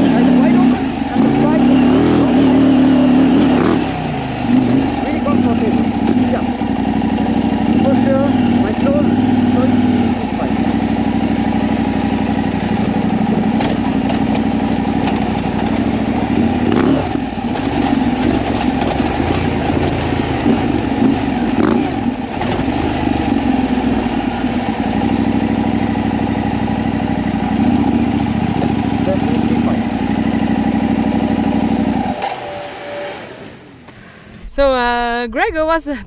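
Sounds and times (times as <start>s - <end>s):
motorcycle engine revving: 0.0s - 34.5s.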